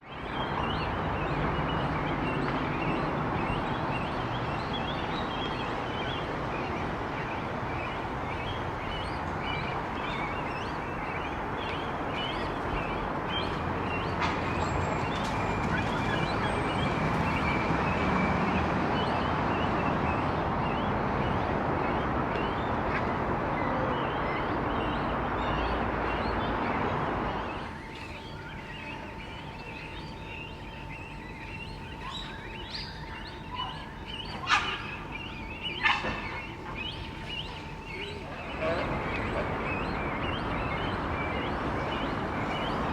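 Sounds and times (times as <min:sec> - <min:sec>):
birds calling: 0:00.2 - 0:42.9
sharp bird calls: 0:00.2 - 0:42.9.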